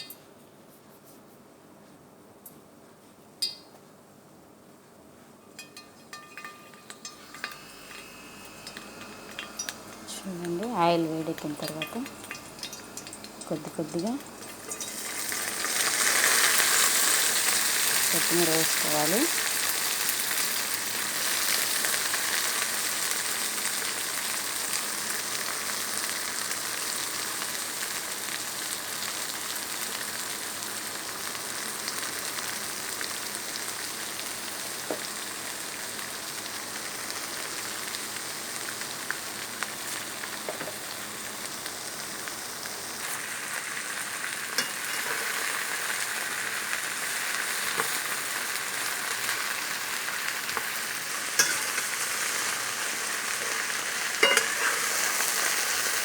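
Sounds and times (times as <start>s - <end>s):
leaves sizzling in hot oil: 5.6s - 56.0s.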